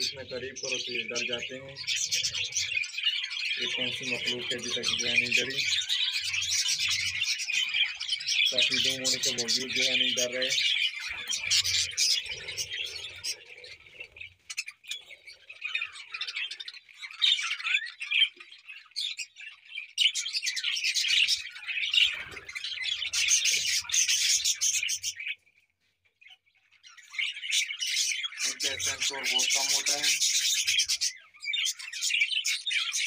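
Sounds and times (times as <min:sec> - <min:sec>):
budgerigars chattering: 0:00.0 - 0:25.4, 0:26.9 - 0:33.0.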